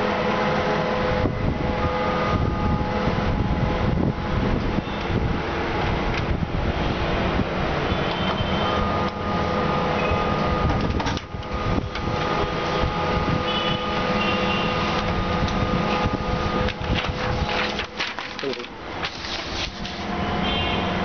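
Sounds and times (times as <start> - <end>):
machine running with hum: 0.0 - 18.4.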